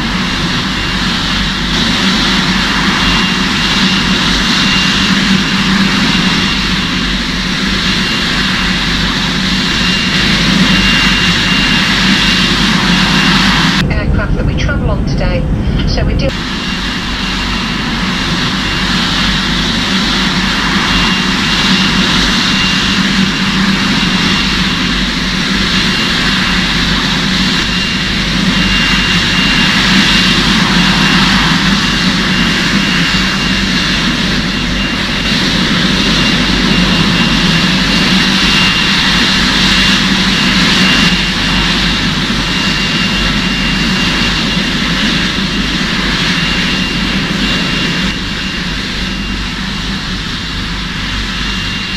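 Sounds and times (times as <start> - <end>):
aircraft engines whining: 0.0 - 51.9.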